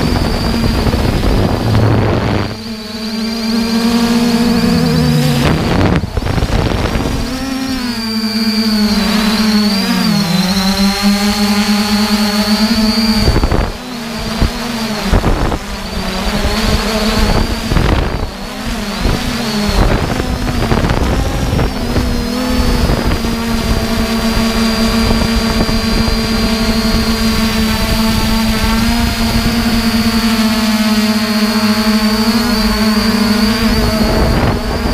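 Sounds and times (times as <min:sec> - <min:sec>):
drone motors whining: 0:00.0 - 0:34.9
wind rushing over microphone: 0:00.0 - 0:34.9.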